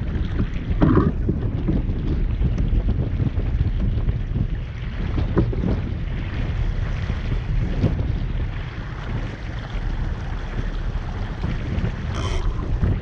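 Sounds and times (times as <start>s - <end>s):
water washing along hull: 0.0s - 13.0s
wind buffeting microphone: 0.0s - 13.0s.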